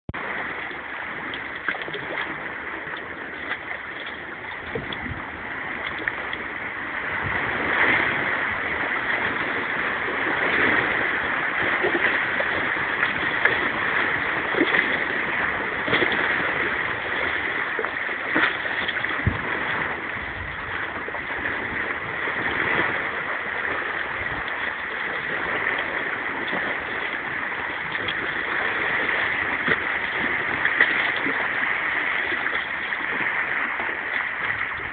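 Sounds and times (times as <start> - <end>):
waves lapping among rocks: 0.2 - 34.9.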